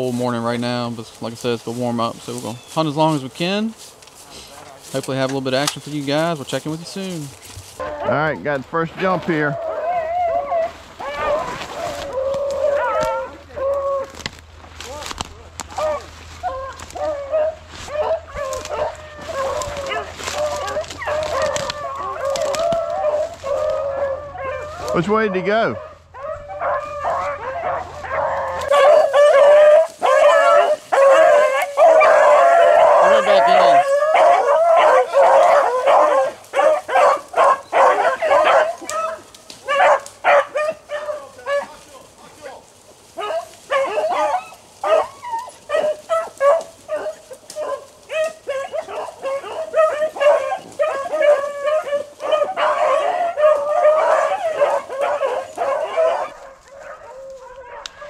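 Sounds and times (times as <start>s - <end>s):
dogs baying: 5.0s - 58.0s.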